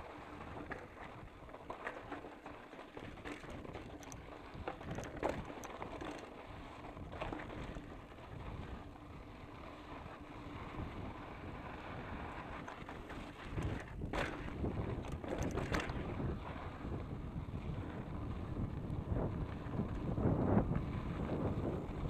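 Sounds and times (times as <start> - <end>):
bike clicks and rattles: 0.0 - 22.0
wind rumbling on microphone: 2.9 - 22.0.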